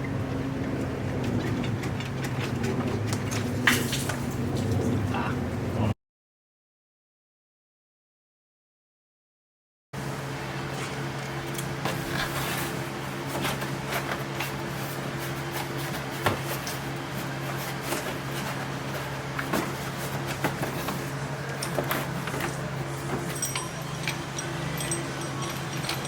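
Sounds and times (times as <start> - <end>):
steady low hum: 0.0 - 6.0, 10.0 - 26.0.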